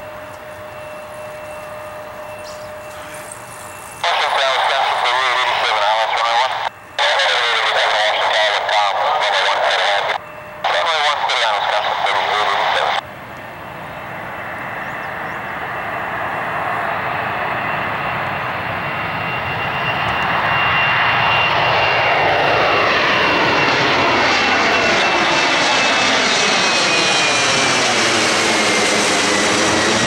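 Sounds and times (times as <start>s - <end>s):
high jet whine: 0.0s - 30.0s
jet airliner engine roar: 0.0s - 30.0s.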